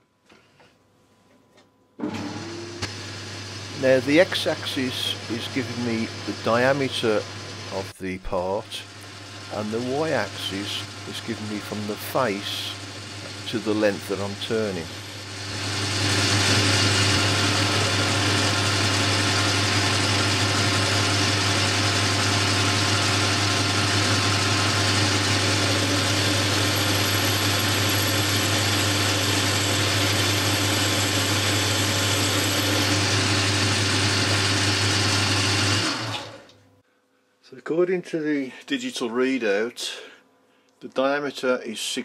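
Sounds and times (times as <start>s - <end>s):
metal lathe whirring: 2.0s - 36.5s.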